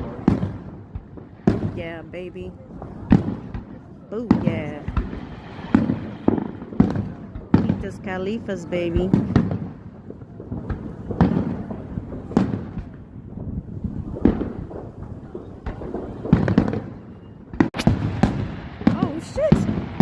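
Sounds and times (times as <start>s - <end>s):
fireworks booming: 0.0s - 20.0s.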